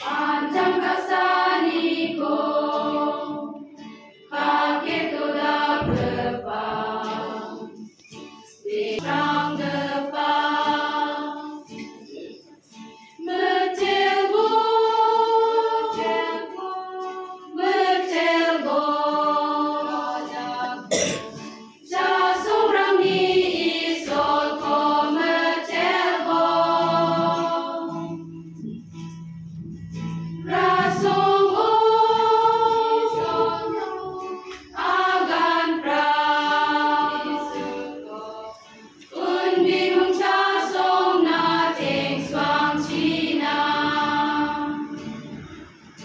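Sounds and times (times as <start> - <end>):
women's choir singing a hymn: 0.0 - 28.9, 29.6 - 46.0.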